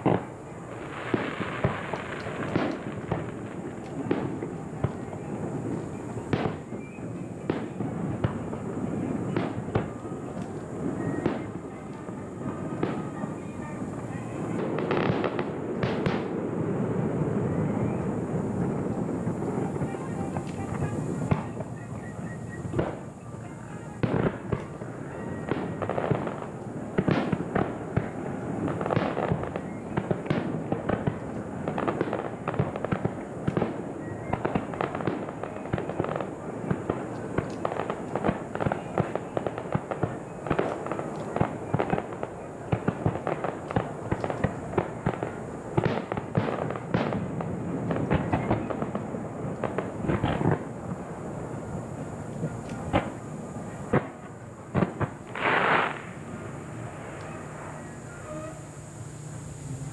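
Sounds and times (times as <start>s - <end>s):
fireworks bangs: 0.0s - 59.9s
fireworks crackle: 0.0s - 59.9s.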